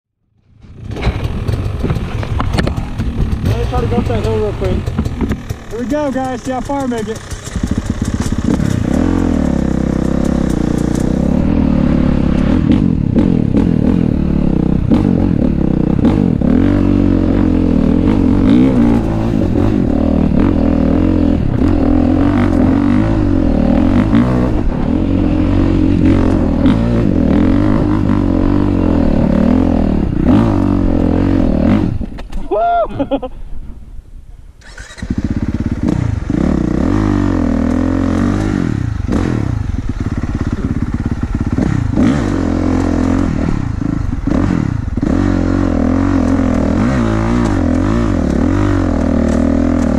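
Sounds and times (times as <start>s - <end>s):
dirt bike engine revving: 0.6s - 32.2s, 34.6s - 49.9s.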